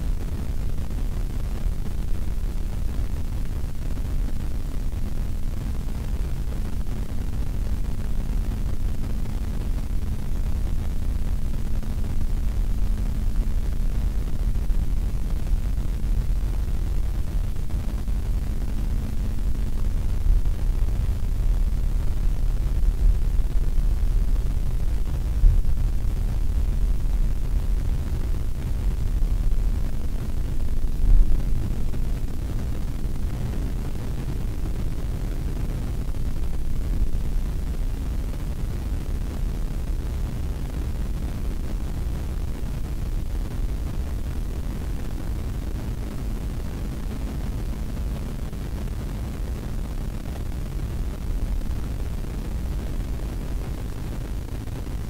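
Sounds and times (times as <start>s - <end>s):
jet engines deep rumble: 7.2s - 55.0s.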